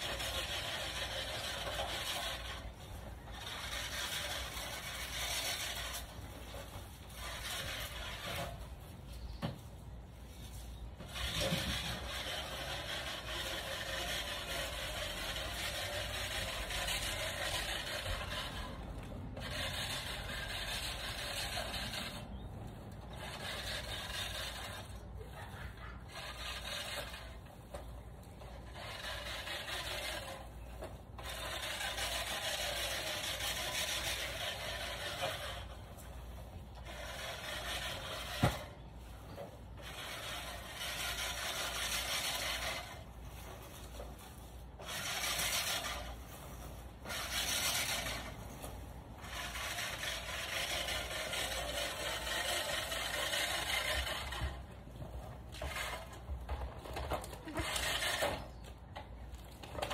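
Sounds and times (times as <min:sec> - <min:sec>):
rustling scraping noise: 0:00.0 - 0:59.9.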